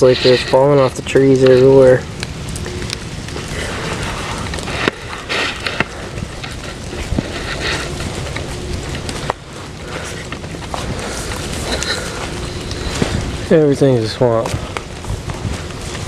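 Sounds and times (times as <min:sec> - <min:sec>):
ice crystals falling crackling: 0:00.0 - 0:16.0.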